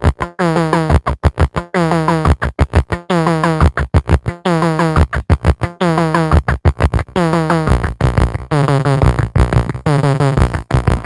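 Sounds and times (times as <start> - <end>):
stuttering synthesizer music: 0.0 - 11.0.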